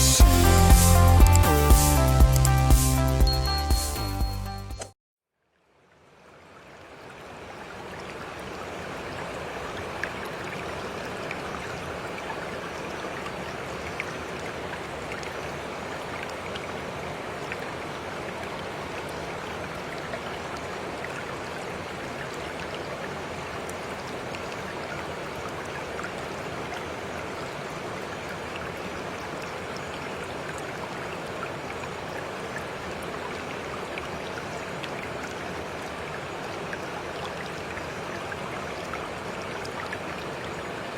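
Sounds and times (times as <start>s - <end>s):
stream water babbling: 5.5s - 40.9s.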